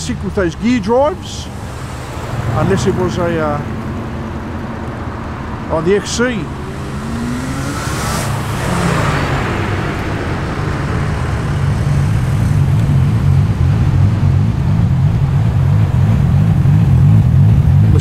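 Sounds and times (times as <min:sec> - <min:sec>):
car engines rumbling: 0:00.0 - 0:18.0.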